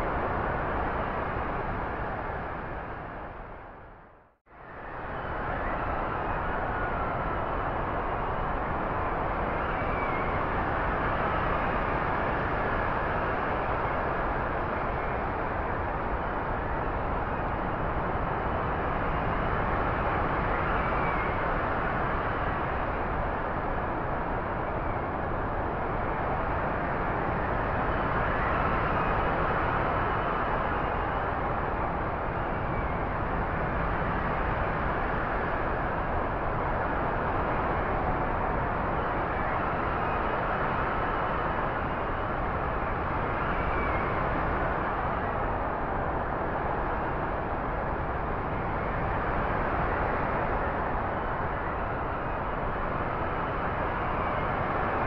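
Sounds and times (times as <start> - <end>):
faint wind whistle: 0.0 - 55.0
strong storm wind: 0.0 - 55.0.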